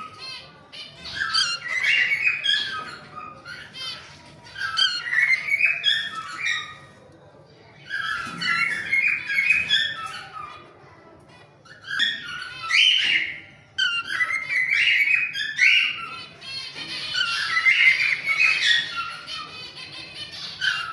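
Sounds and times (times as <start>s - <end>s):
cockatiels chattering and whistling: 0.0s - 20.9s.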